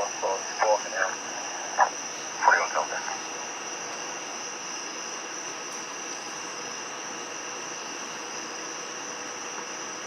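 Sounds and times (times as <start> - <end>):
crickets chirping chorus: 0.0 - 10.0.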